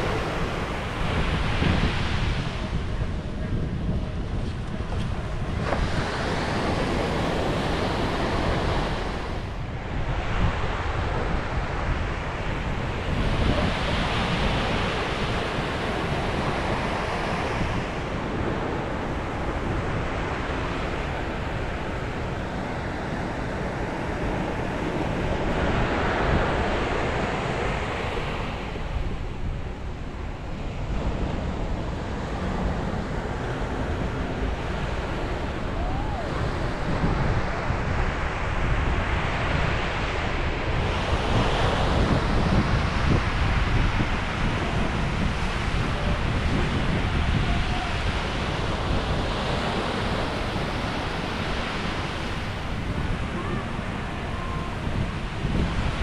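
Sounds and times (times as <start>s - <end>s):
sea waves breaking on beach: 0.0s - 56.0s
wind rumbling on microphone: 0.0s - 56.0s.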